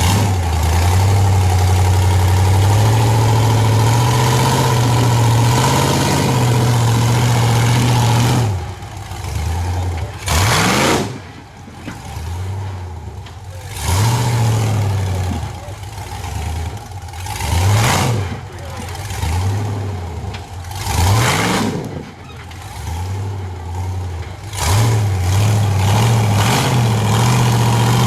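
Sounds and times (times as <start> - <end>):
buggy engine revving: 0.0 - 28.0.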